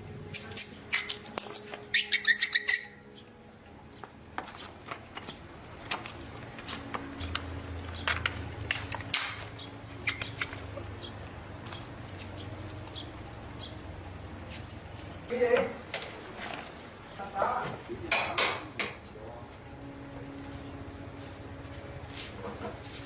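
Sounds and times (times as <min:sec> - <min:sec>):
low steady hum: 0:02.8 - 0:23.0.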